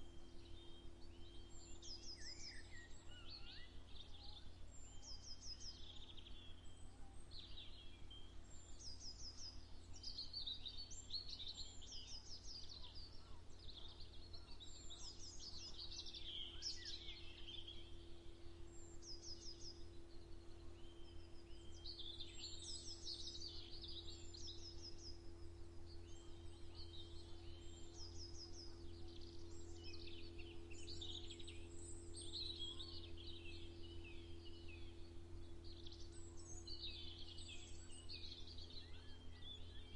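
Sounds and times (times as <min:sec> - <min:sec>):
songbirds singing: 0:00.0 - 0:39.9
steady low hum: 0:00.0 - 0:39.9.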